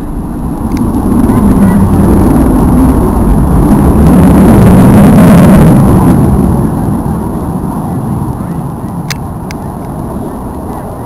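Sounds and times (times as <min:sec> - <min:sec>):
aircraft engine flying past: 0:00.0 - 0:11.0.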